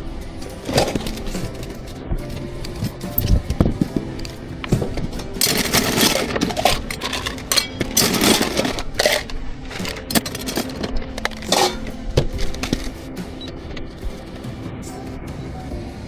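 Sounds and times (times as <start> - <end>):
cups and equipment clinking: 0.0 - 15.2.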